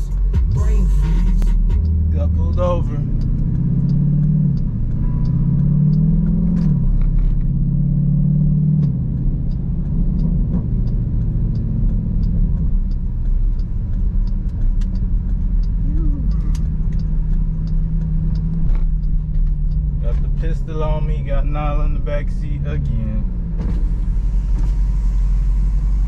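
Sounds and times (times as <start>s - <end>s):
car engine and road noise: 0.0s - 26.0s
faint regular ticking: 0.0s - 26.0s.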